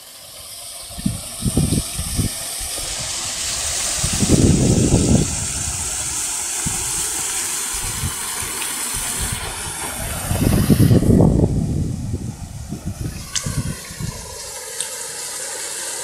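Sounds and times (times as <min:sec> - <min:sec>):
paddle wheel churning water: 0:00.0 - 0:16.0
low rumbling buffets: 0:00.5 - 0:15.9.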